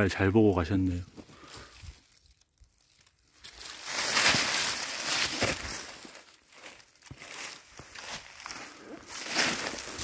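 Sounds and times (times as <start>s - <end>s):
dry leaves rustling and crackling: 1.4s - 10.0s.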